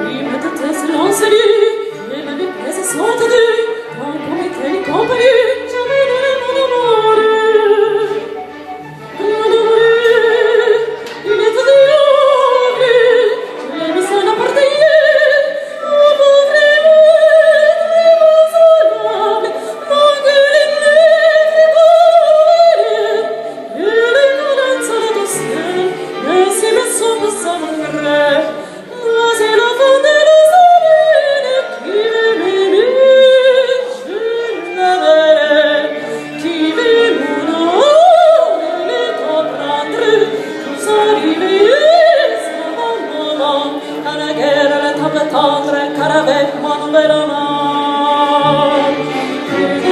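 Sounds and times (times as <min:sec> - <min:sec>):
operatic singing: 0:00.0 - 0:49.9
steady accompaniment: 0:00.0 - 0:49.9.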